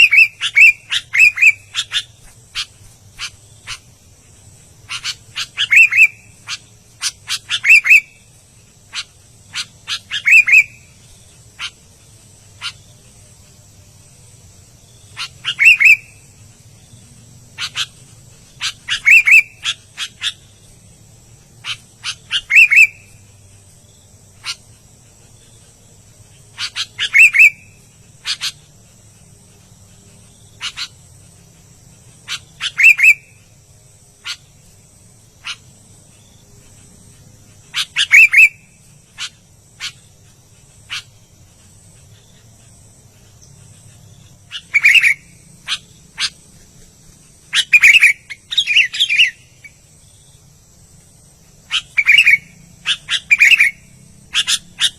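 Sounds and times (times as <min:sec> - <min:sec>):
bulbul chirping and singing: 0:00.0 - 0:54.9.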